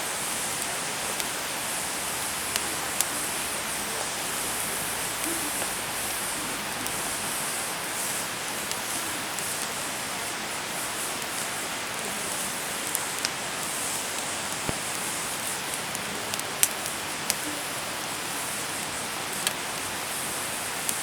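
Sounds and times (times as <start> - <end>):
bonfire hissing: 0.0 - 21.0
fire crackles and pops: 0.0 - 21.0.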